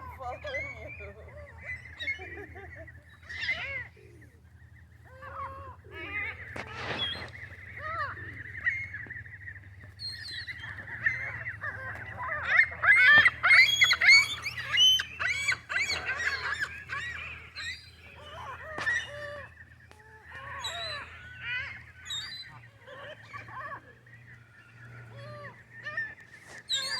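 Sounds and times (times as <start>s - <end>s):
geese honking: 5.2s - 26.9s.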